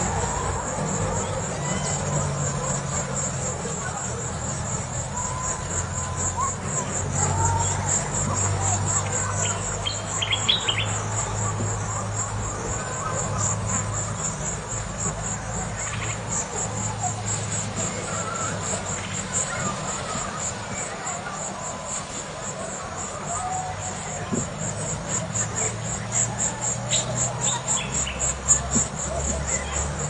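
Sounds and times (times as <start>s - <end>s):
insects pulsing high trill: 0.0s - 30.0s.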